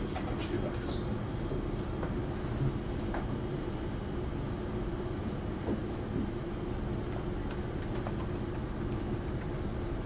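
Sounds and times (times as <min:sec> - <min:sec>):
low room hum and rumble: 0:00.0 - 0:10.0.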